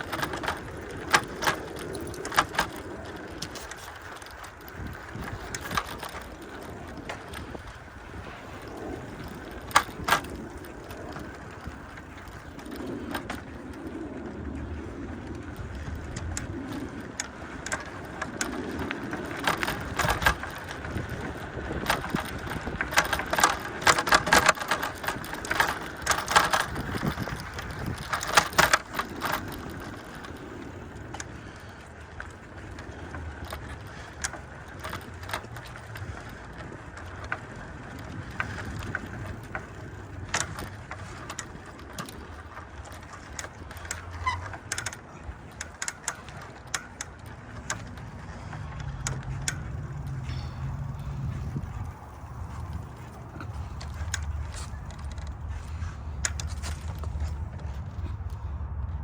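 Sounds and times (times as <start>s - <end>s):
bicycle rattling over bumps: 0.0s - 59.0s
low steady rumble: 0.0s - 59.0s.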